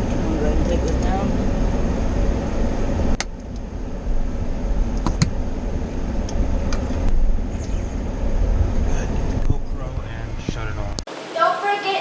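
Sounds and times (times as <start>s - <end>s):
low rumble of car: 0.0s - 11.0s.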